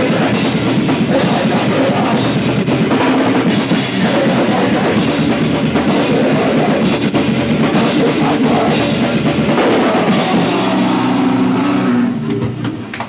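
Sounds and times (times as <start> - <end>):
fast drum kit: 0.0 - 12.9
bass guitar: 0.0 - 13.0
distorted electric guitar: 0.0 - 13.0
punk band playing live: 0.0 - 13.0.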